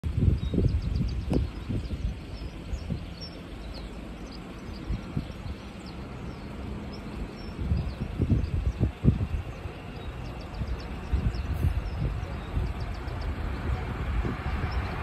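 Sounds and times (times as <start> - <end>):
wind rumbling on microphone: 0.0 - 15.0
small birds chirping: 0.1 - 15.0.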